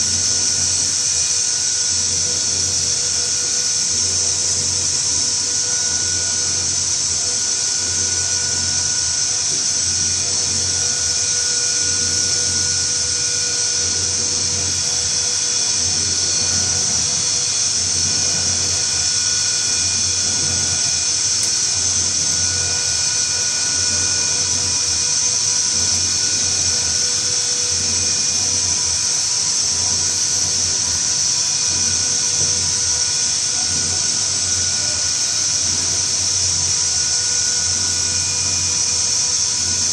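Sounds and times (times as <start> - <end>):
mixer hissing and whining: 0.0 - 39.9.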